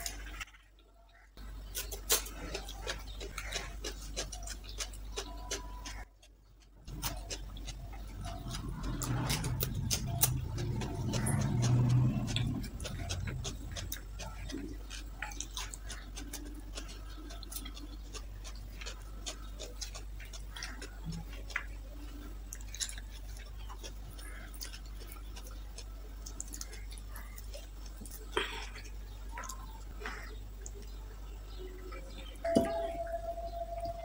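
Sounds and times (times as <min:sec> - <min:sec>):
chewing with wet mouth clicks: 0:00.0 - 0:33.0.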